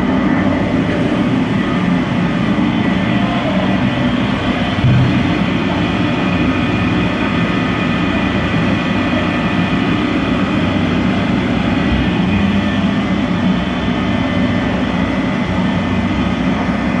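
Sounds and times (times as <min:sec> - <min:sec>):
steady mechanical din: 0:00.0 - 0:17.0.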